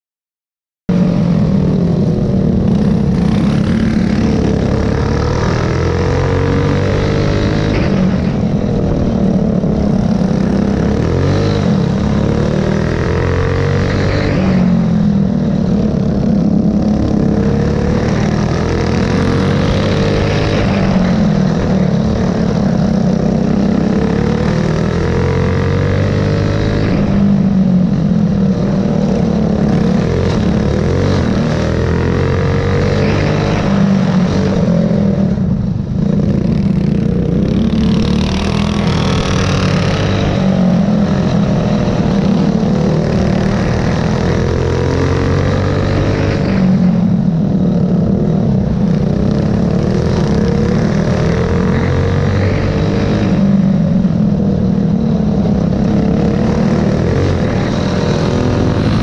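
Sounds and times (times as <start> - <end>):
go-kart engine running hard: 0.9 - 59.0
other kart engines: 0.9 - 59.0.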